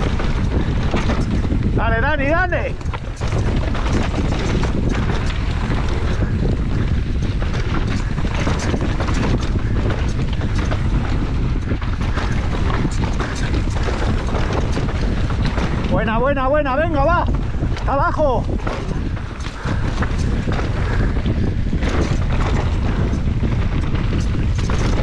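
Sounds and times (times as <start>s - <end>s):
bike rattling over bumps: 0.0s - 25.0s
tyres rushing on dirt: 0.0s - 25.0s
wind buffeting microphone: 0.0s - 25.0s.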